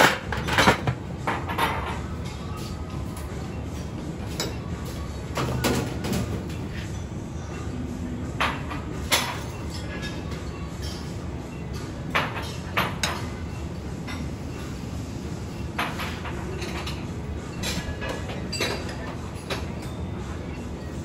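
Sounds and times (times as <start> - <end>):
low kitchen background noise: 0.0 - 21.0
utensils and dishes clinking: 0.0 - 21.0.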